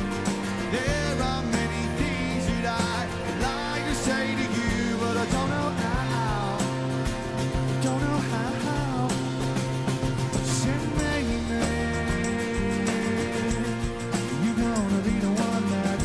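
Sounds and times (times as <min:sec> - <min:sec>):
live rock band playing: 0:00.0 - 0:16.0
person singing lead vocal: 0:00.6 - 0:09.7, 0:10.3 - 0:16.0.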